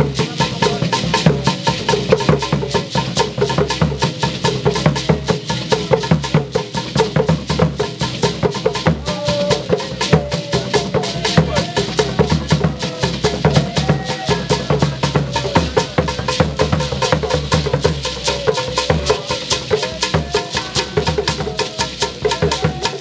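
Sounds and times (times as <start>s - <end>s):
gourd rattle shaking: 0.0s - 23.0s
hand drums playing fast rhythm: 0.0s - 23.0s.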